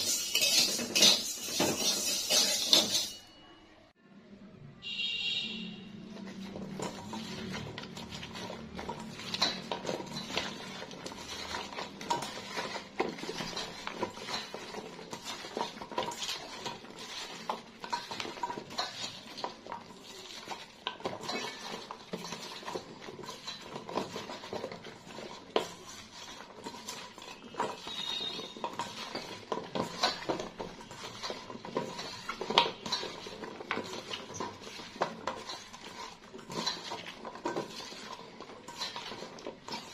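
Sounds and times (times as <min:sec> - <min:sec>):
vegetables clattering in metal bowl: 0:00.0 - 0:03.3, 0:06.0 - 0:39.9.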